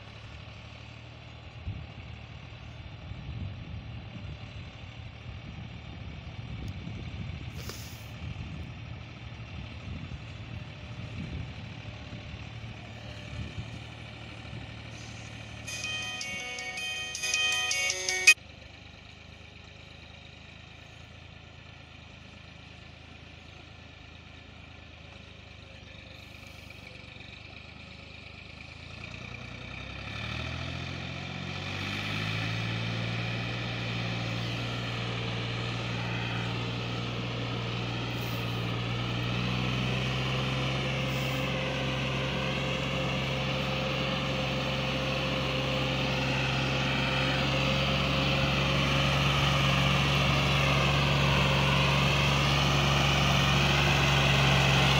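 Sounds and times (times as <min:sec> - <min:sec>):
tractor diesel engine: 0:00.0 - 0:54.9.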